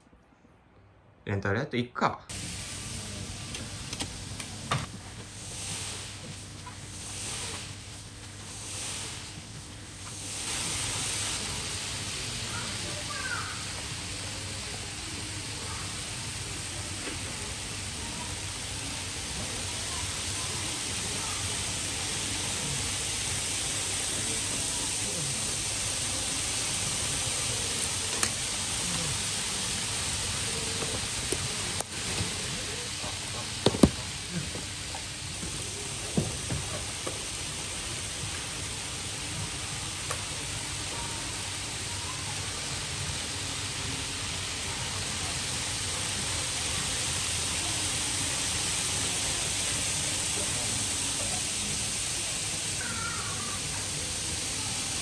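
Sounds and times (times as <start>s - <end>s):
room noise hiss: 0.0s - 55.0s.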